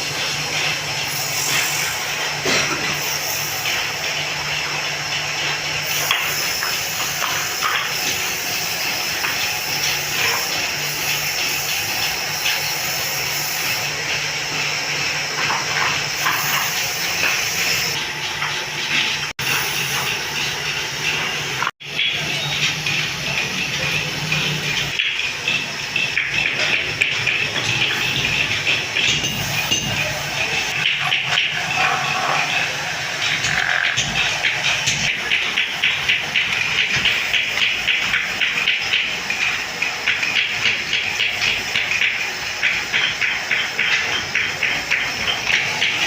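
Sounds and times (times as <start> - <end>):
woodworking power tool running: 0.0 - 46.0.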